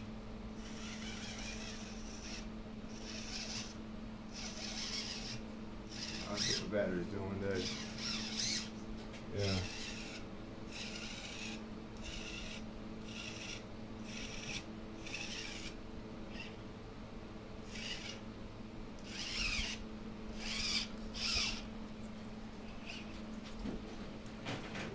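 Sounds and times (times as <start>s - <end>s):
small electric motor whirring: 0.0s - 16.6s, 17.6s - 18.2s, 19.0s - 21.8s, 22.8s - 23.2s
steady low hum: 0.0s - 24.9s.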